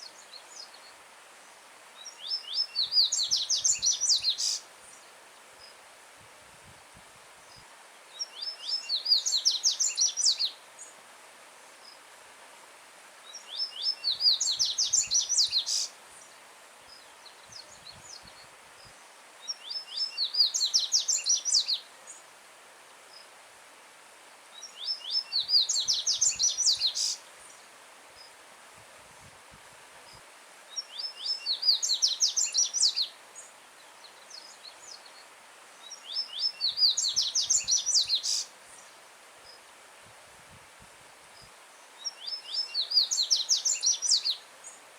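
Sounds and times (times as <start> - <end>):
faint stream hiss: 0.0 - 44.9.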